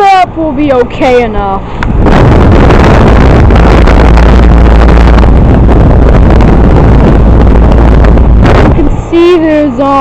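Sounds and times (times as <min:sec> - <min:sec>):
air conditioner unit roaring: 0:00.0 - 0:10.0.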